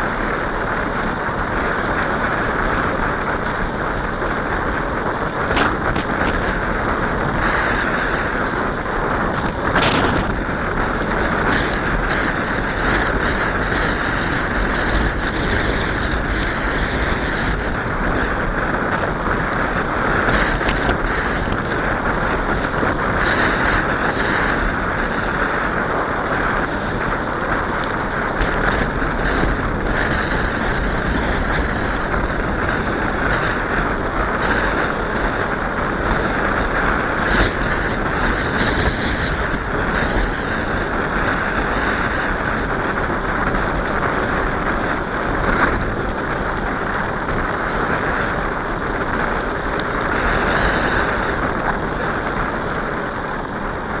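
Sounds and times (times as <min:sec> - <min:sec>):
bicycle tyre noise: 0:00.0 - 0:54.0
wind rushing: 0:00.0 - 0:54.0.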